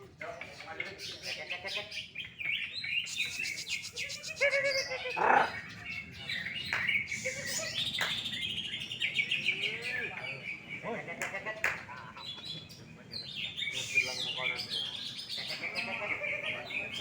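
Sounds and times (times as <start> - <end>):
bird singing chirps and trills: 0.0 - 11.2, 11.8 - 17.0.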